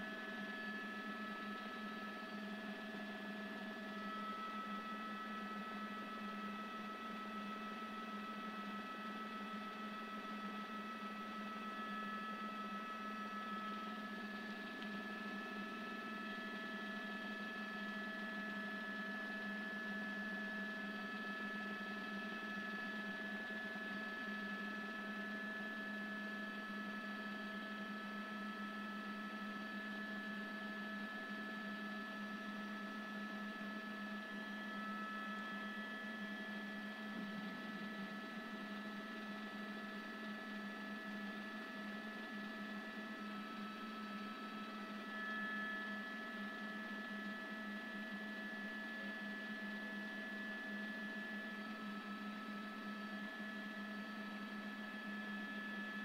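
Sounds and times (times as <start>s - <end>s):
steady multi-tone hum: 0.0s - 56.0s.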